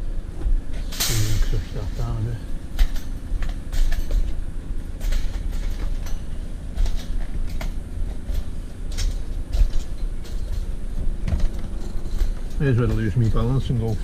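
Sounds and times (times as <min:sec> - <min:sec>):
scrap metal rumbling and rattling: 0:00.0 - 0:14.0
metal knocks and clanks: 0:00.4 - 0:04.4, 0:05.0 - 0:14.0.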